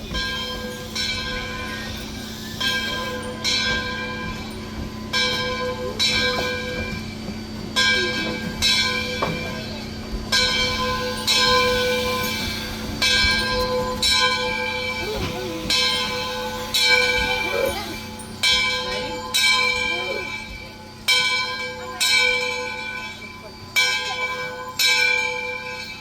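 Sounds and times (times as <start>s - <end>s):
locomotive bell ringing: 0.0s - 26.0s.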